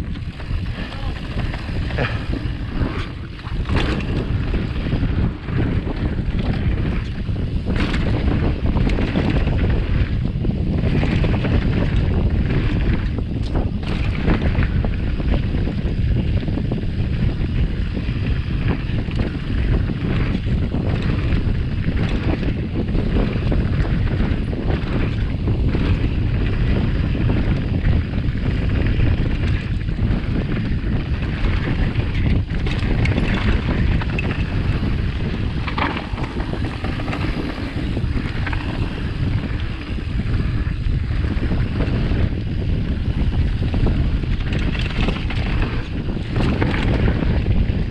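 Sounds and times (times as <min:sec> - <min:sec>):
bike knocks and rattles: 0:00.0 - 0:47.9
bike tyre noise: 0:00.0 - 0:47.9
wind buffeting on microphone: 0:00.0 - 0:47.9.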